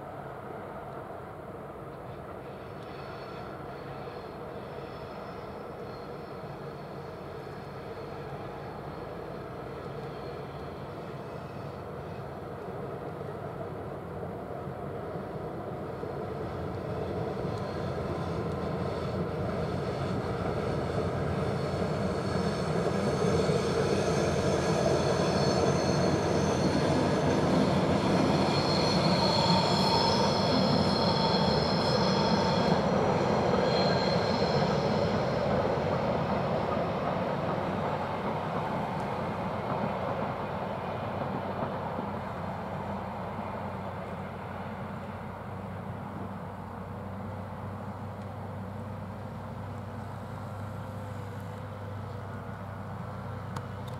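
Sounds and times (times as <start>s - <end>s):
freight train rumble: 0.0s - 53.9s
train wheels squealing: 1.9s - 52.2s.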